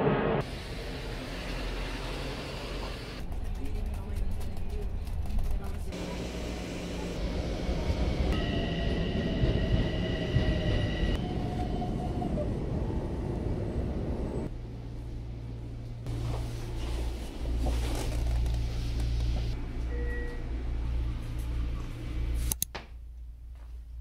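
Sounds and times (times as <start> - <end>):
moving train rumbling: 0.0 - 22.4.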